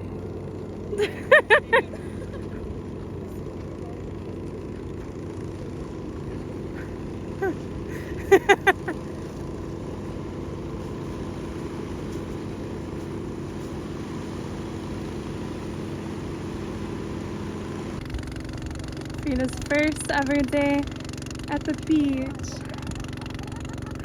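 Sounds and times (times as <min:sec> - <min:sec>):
motor running steadily: 0:00.0 - 0:24.0.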